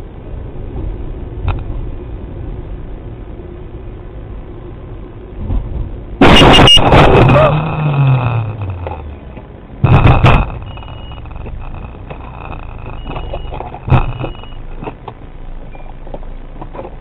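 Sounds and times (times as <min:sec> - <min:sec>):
car engine: 0:00.0 - 0:17.0
road traffic rumble: 0:00.0 - 0:17.0.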